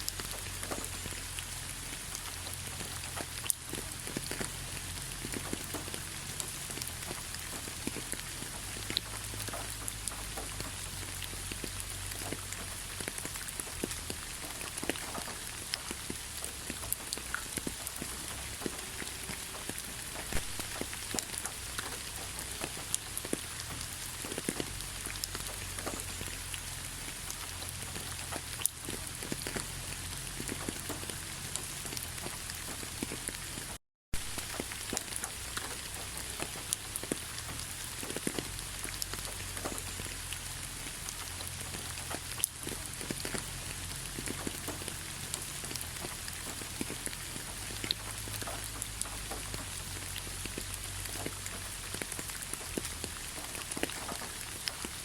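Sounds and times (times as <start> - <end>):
rain falling: 0.0 - 55.0
raindrops ticking: 0.0 - 55.0.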